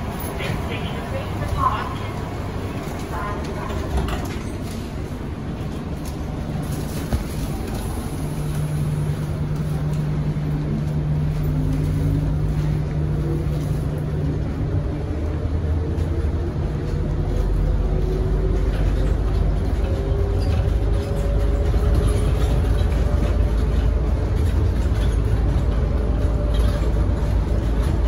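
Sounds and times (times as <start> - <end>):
train running noise: 0.0 - 28.0.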